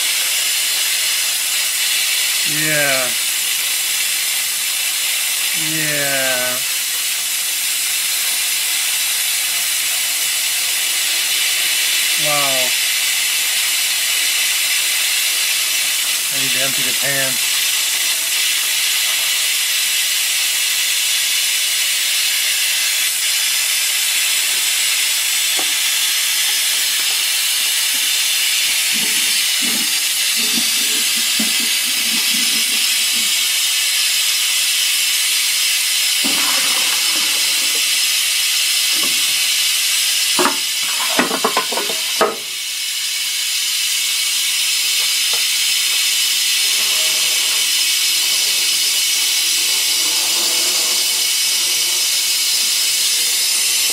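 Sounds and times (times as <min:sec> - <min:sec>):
compressed air hissing from drain: 0:00.0 - 0:53.9.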